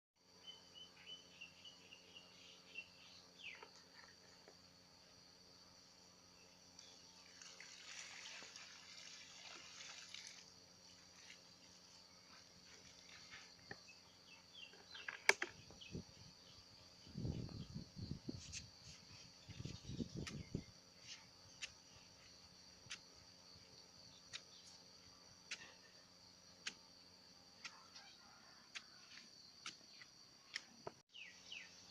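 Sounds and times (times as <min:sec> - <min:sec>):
high insect drone: 0:00.4 - 0:31.9.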